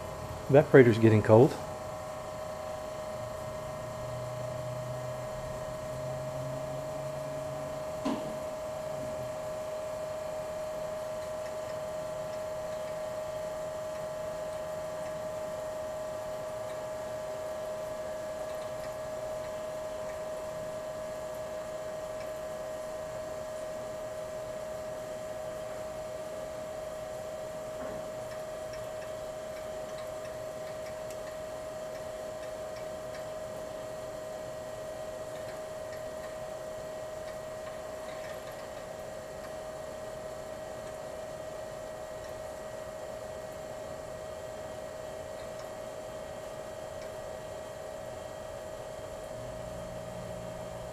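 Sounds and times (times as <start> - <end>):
refrigerator compressor humming: 0.0 - 50.9.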